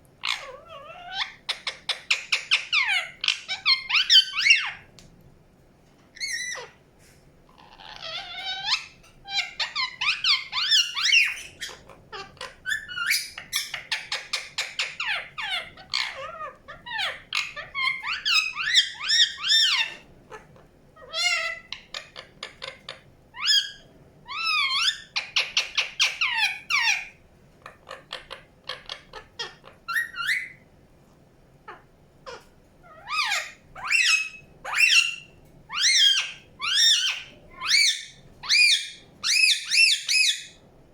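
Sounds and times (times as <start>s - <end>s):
parakeet chirping and squawking: 0.2s - 4.9s, 6.2s - 6.8s, 7.5s - 30.7s, 31.6s - 40.7s.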